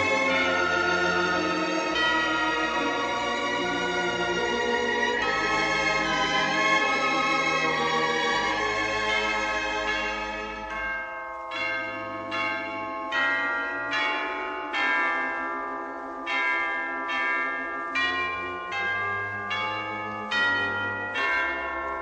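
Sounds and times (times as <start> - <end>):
chime-like bell melody: 0.0 - 22.0.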